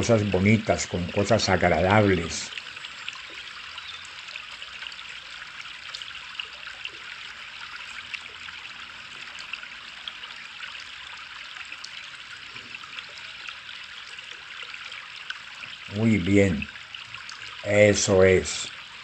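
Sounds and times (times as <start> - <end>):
small stream trickling: 0.0 - 19.0
water drips and splashes: 0.0 - 19.0.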